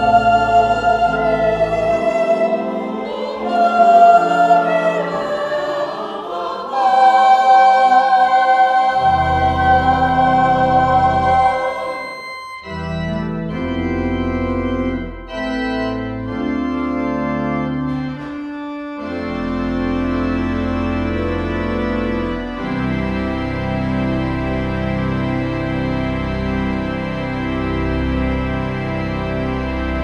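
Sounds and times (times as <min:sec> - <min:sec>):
church organ chords: 0:00.0 - 0:30.0.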